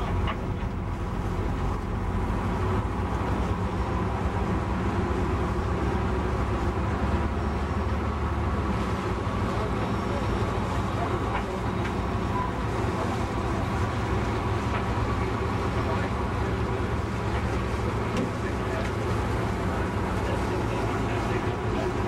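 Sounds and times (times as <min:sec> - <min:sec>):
boat engine running steadily: 0:00.0 - 0:22.0.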